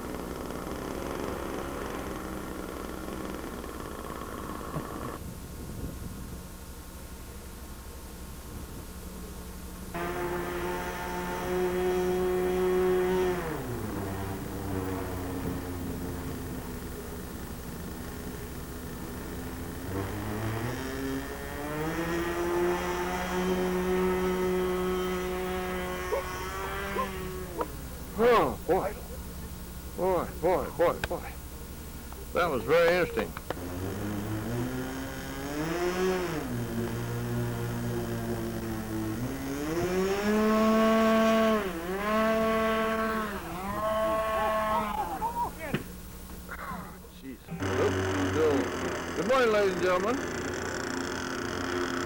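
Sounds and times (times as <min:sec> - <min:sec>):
model plane engine: 0:00.0 - 0:06.3, 0:09.9 - 0:52.0.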